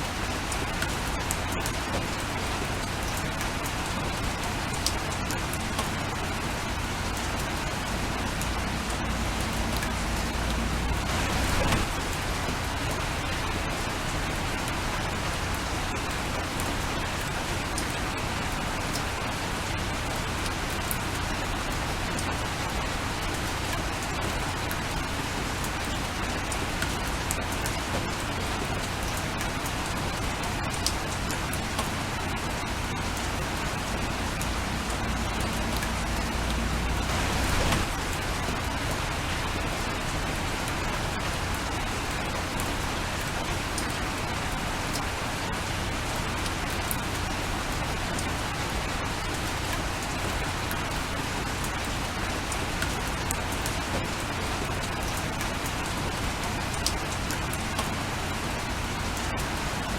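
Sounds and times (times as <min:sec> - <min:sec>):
steady rain falling: 0:00.0 - 0:59.9
raindrops ticking: 0:00.1 - 0:59.9.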